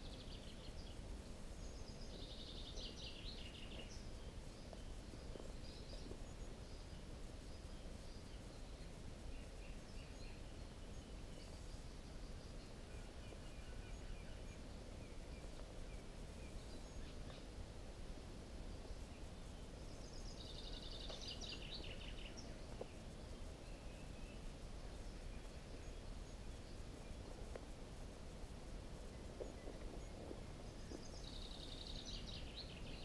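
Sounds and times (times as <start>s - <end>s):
low background hiss: 0.0s - 33.0s.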